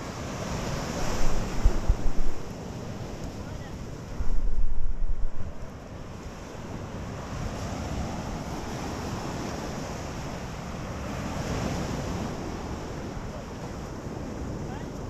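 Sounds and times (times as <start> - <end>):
ocean surf on beach: 0.0 - 15.0
wind rumbling on microphone: 0.0 - 15.0.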